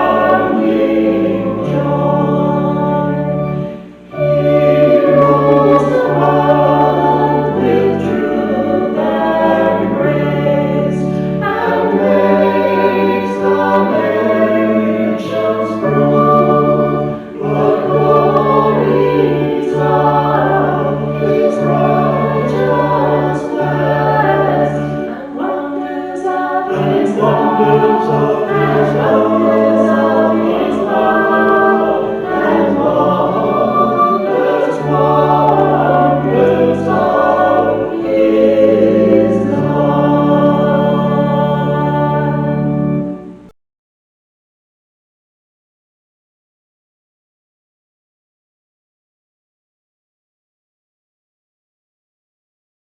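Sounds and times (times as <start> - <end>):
choir singing: 0.0 - 43.5.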